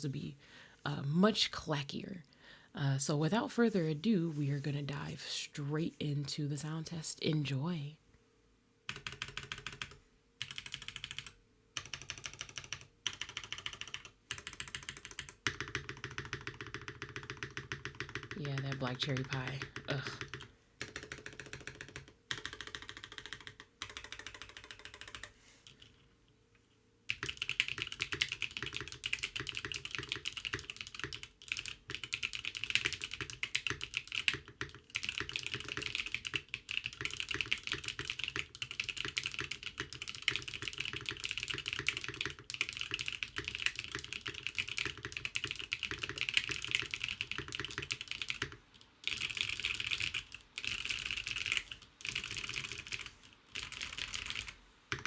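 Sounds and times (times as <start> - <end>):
mechanical keyboard typing: 8.9 - 26.0, 27.1 - 55.0.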